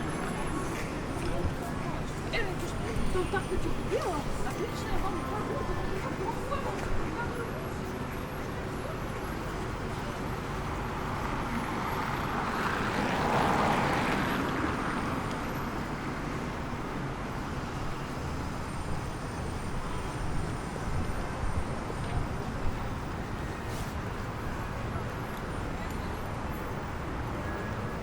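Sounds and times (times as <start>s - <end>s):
low street noise: 0.0s - 28.0s.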